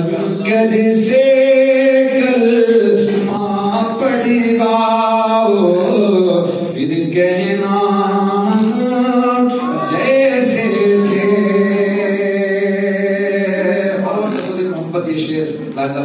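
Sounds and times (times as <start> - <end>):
man singing unaccompanied: 0.0 - 14.8.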